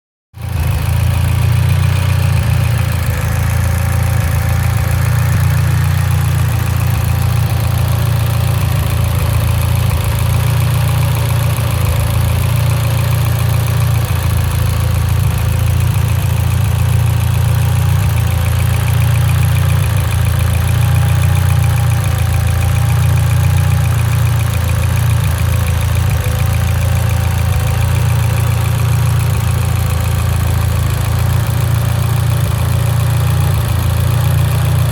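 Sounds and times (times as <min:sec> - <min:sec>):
car engine idling unevenly: 0:00.3 - 0:34.9.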